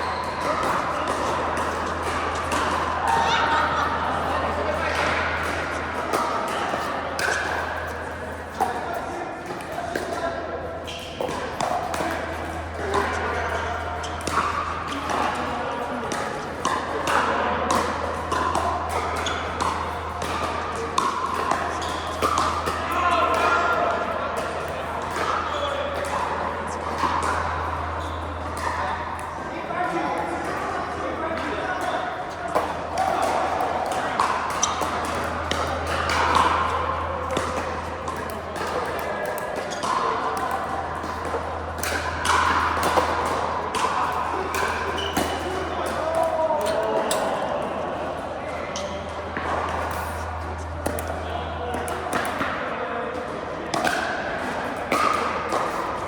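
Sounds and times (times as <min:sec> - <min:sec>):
murmur of voices: 0:00.0 - 0:56.0
paddles hitting balls: 0:00.2 - 0:10.2, 0:10.9 - 0:29.4, 0:31.4 - 0:52.6.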